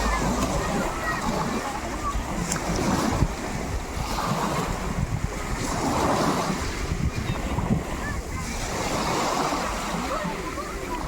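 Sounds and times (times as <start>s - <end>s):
sea waves splashing: 0.0s - 11.0s
wind rumbling on microphone: 0.0s - 11.0s.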